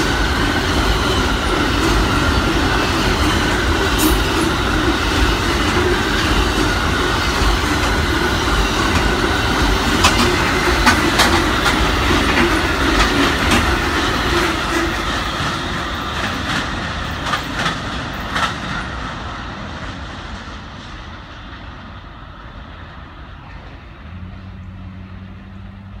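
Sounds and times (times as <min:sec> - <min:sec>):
train wheels clacking over rail joints: 0:00.0 - 0:21.7.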